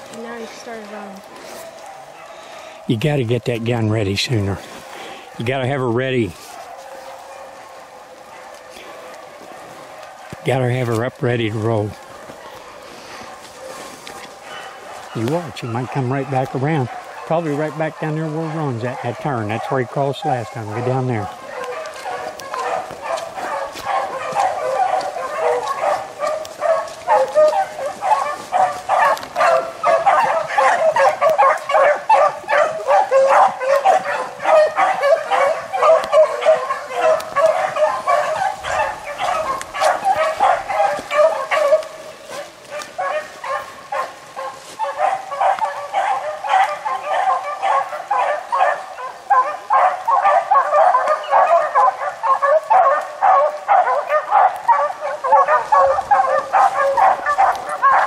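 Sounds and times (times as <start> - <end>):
hounds baying: 0.0 - 58.0.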